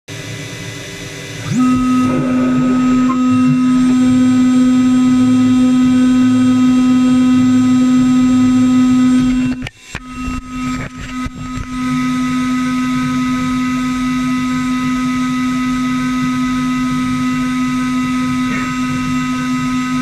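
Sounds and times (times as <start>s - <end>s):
router motor running: 0.1s - 20.0s.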